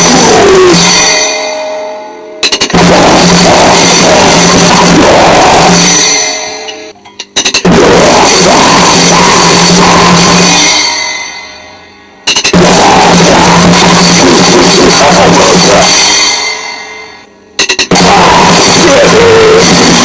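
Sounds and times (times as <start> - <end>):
loud noise music with drums: 0.0 - 1.6, 2.4 - 6.7, 7.4 - 11.4, 12.3 - 16.9, 17.6 - 20.0.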